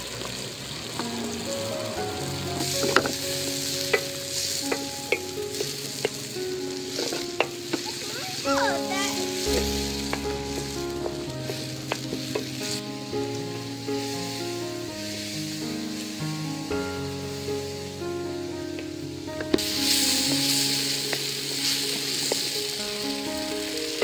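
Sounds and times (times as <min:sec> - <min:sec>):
vegetables sizzling in a pan: 0:00.0 - 0:18.0, 0:19.4 - 0:24.0.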